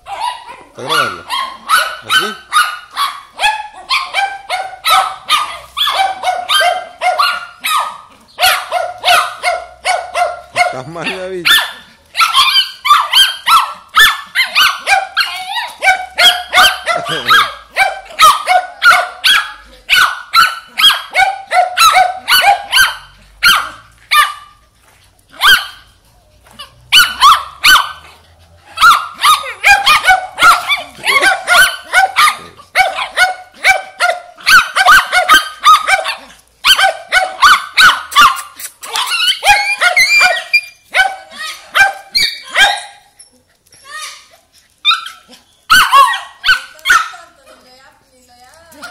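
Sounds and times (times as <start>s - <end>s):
small dogs barking rapidly: 0.0s - 43.2s, 43.9s - 47.7s.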